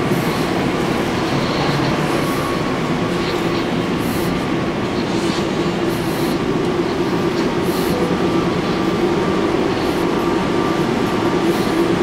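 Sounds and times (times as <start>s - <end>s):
people mover mechanical hum: 0.0s - 12.0s.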